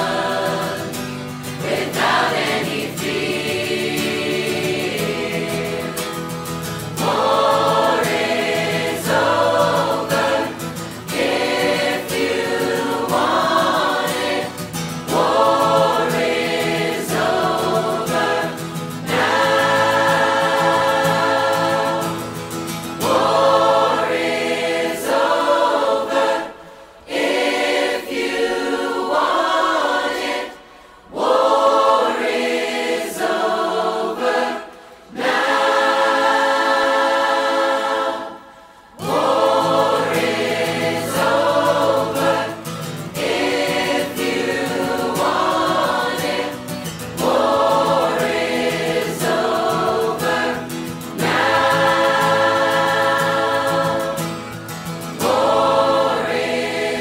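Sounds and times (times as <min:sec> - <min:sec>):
choir singing with instruments: 0:00.0 - 0:57.0.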